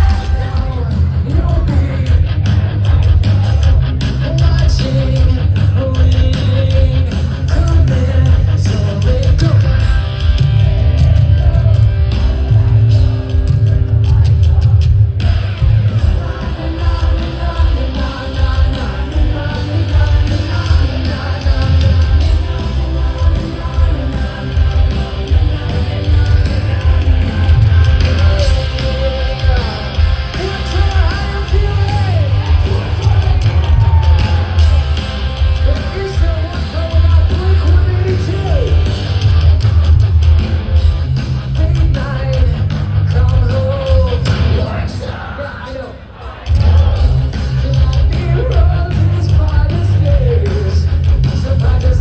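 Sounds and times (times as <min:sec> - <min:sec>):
person singing and yelling: 0:00.0 - 0:39.0, 0:41.6 - 0:52.0
guitar: 0:00.0 - 0:52.0
heavy bass and drums: 0:00.0 - 0:52.0
live rock band playing: 0:00.0 - 0:52.0.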